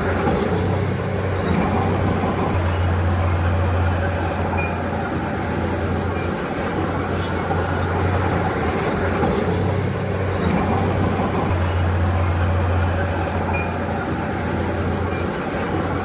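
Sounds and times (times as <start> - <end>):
bulldozer diesel engine running: 0.0 - 16.0
steel tracks squeaking: 0.0 - 16.0.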